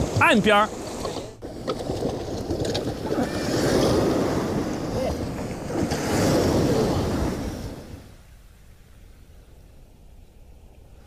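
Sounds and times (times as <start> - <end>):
surf breaking in shallow water: 0.0 - 11.0
wind buffeting microphone: 0.0 - 11.0.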